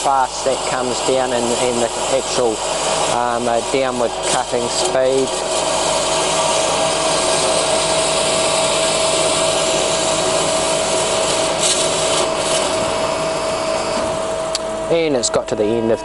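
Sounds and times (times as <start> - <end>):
bandsaw cutting: 0.0 - 14.6
whining blade and drive: 0.0 - 16.0.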